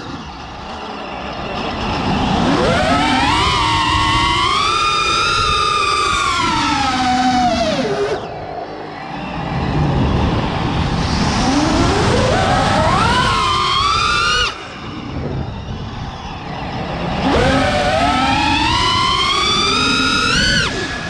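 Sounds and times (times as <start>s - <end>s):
drone motors whining: 0.0s - 21.0s
wind rushing over microphone: 0.0s - 21.0s.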